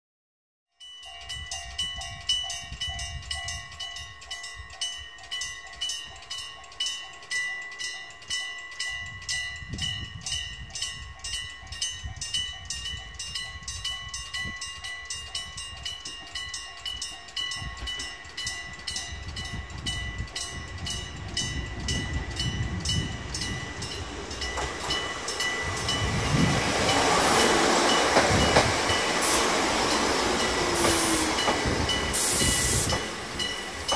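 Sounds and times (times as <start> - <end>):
electric train rumble: 1.2 - 33.9.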